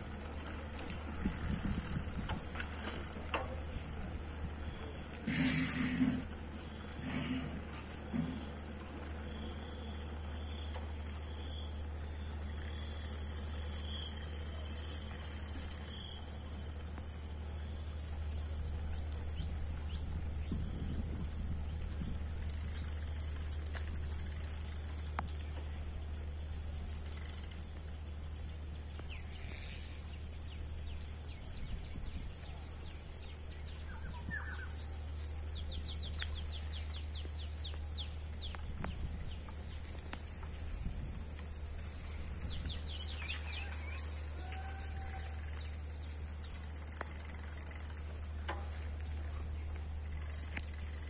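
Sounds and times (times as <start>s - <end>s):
birds chirping: 0.0s - 23.6s, 24.3s - 51.0s
steady low rumble: 0.0s - 24.3s, 27.6s - 44.4s.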